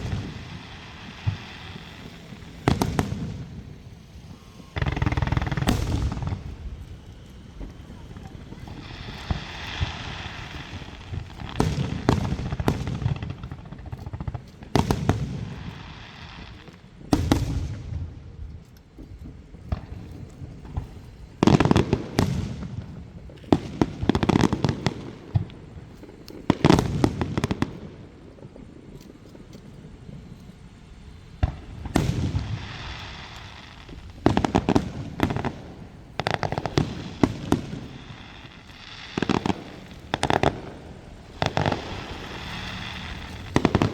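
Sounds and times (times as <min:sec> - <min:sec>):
fireworks bursting with echoing bangs: 0:00.0 - 0:43.9.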